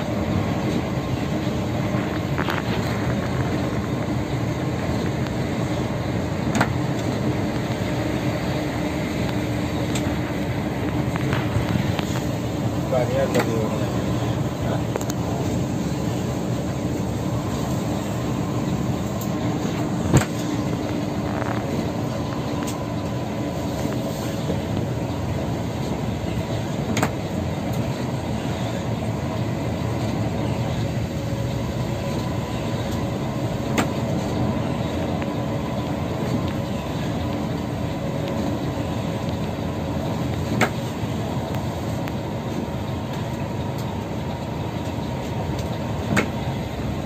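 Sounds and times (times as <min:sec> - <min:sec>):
bus road and engine noise: 0:00.0 - 0:47.0.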